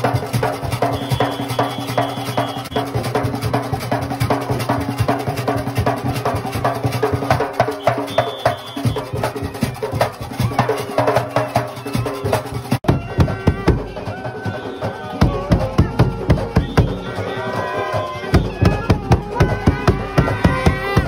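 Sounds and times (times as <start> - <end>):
hand drum beaten fast: 0.0 - 17.2, 18.3 - 21.0.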